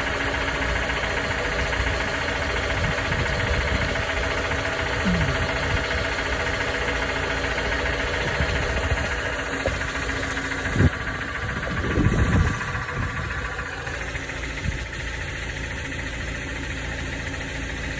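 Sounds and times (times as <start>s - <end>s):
car engine idling with knock: 0.0s - 17.9s.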